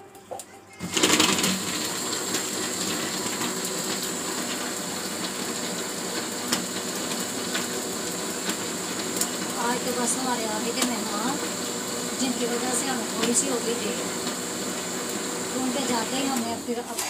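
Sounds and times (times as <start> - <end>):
electric blender running: 0.8 - 17.0.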